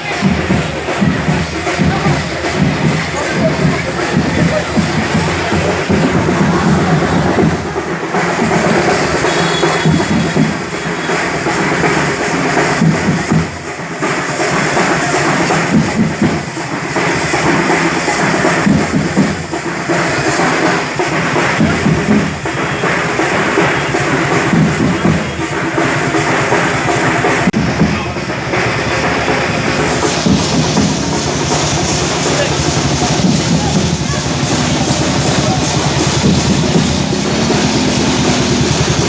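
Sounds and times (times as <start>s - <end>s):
drum troupe playing: 0.0s - 39.0s.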